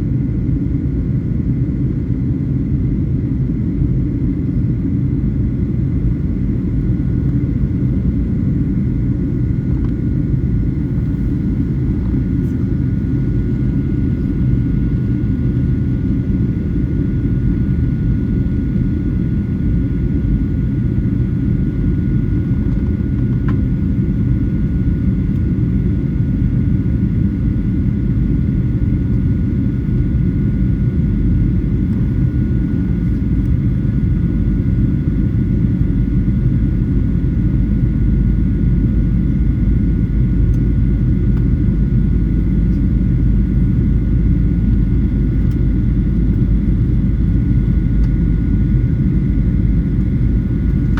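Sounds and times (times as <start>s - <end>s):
aircraft cabin rumble: 0.0s - 50.9s
faint steady whining tones: 0.0s - 50.9s.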